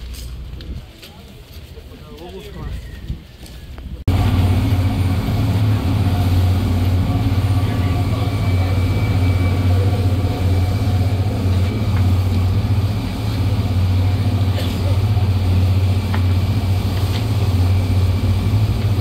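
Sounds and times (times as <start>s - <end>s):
boat engine humming: 3.4s - 19.0s.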